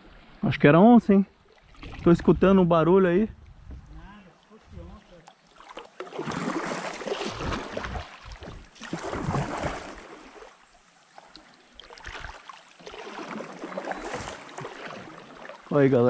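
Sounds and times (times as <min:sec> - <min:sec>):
paddle splashing in water: 0:01.4 - 0:02.3, 0:03.7 - 0:15.9.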